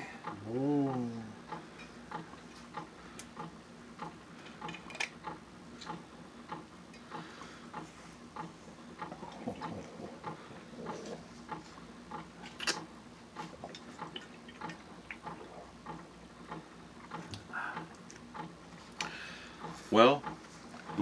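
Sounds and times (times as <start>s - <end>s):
faint low hum: 0.0s - 21.0s
steady ticking: 0.0s - 21.0s.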